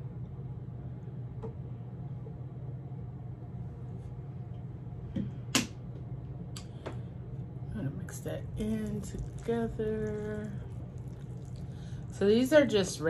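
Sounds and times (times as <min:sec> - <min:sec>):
room heater hum: 0:00.0 - 0:13.0.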